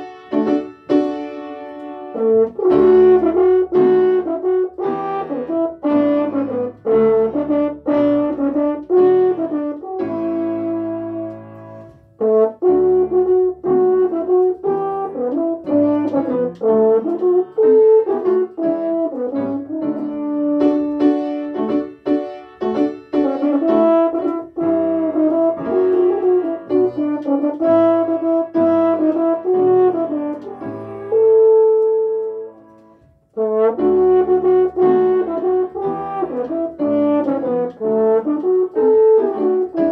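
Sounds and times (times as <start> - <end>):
french horn playing slow melody: 0.0 - 39.9.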